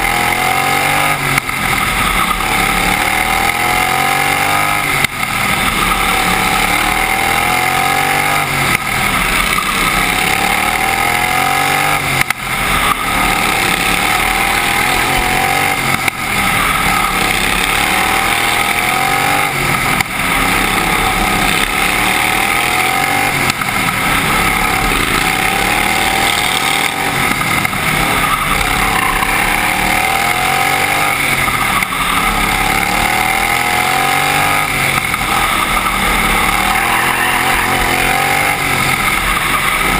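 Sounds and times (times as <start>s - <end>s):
racing mower engine accelerating: 0.0s - 39.9s.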